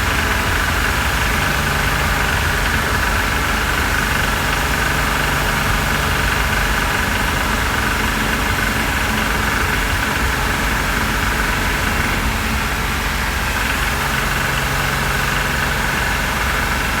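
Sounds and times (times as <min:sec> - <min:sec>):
car engine running: 0:00.0 - 0:17.0
engine knocking noise: 0:00.0 - 0:17.0.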